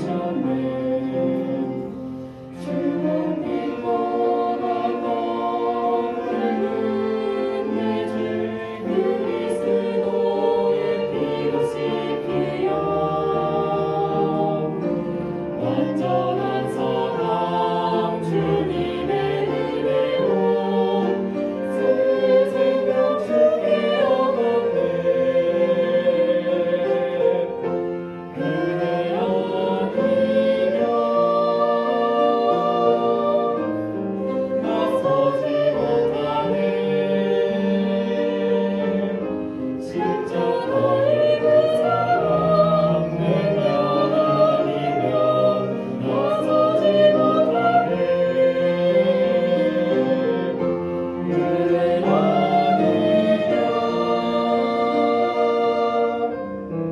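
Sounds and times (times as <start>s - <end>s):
church choir singing: 0.0s - 56.9s
orchestra accompanying: 0.0s - 56.9s.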